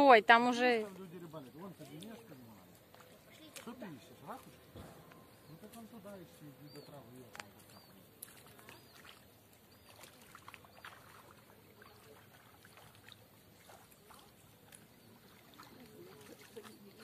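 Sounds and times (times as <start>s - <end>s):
people wading in water: 0.0s - 17.0s.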